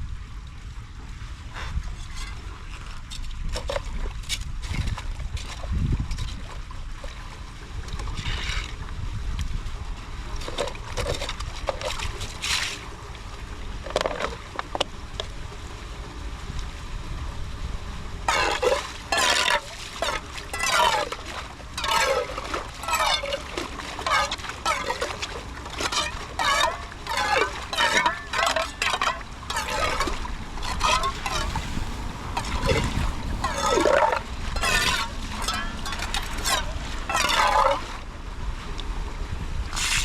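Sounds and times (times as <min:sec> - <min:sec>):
wind rumble on microphone: 0:00.0 - 0:40.0
floodwater splashing and gurgling: 0:00.6 - 0:40.0
short water splashes: 0:01.6 - 0:15.8, 0:18.2 - 0:38.1.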